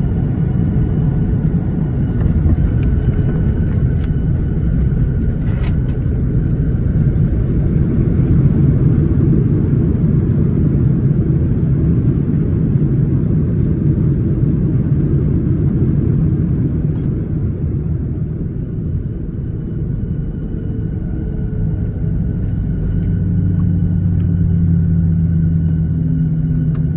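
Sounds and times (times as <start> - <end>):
aircraft cabin rumble: 0.0 - 26.9
jet engine whine: 0.0 - 26.9.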